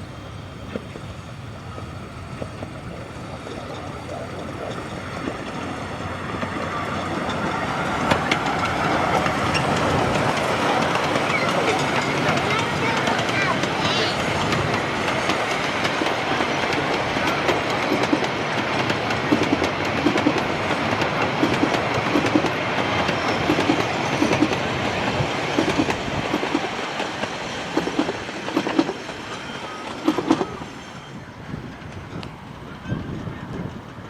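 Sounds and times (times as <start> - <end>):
train rumbling on track: 0.0 - 34.0
wheels clicking over rail joints: 0.0 - 34.0.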